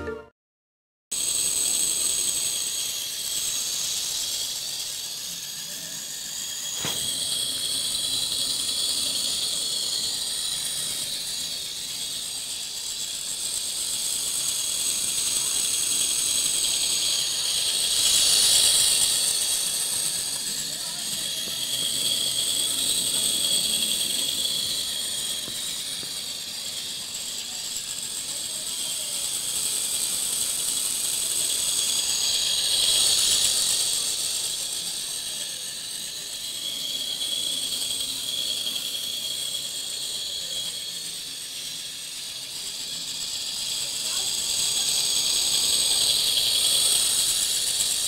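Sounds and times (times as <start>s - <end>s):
small electric motor whining: 1.2s - 48.0s.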